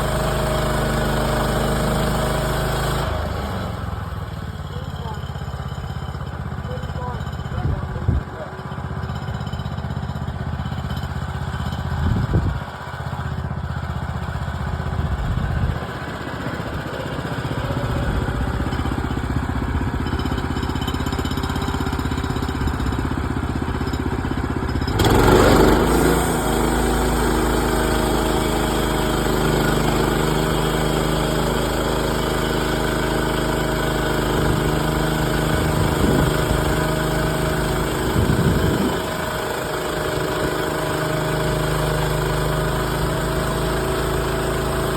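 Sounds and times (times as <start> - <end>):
small gas engine running: 0.0 - 44.9.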